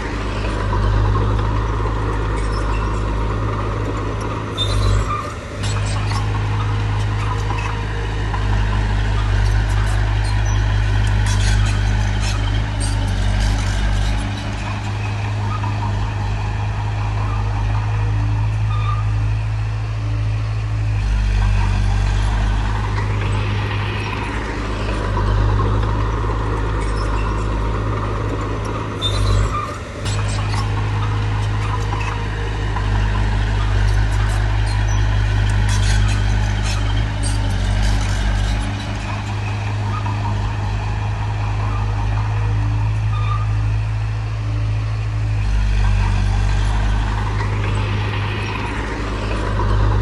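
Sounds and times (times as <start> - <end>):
bulldozer engine droning: 0.0 - 50.0.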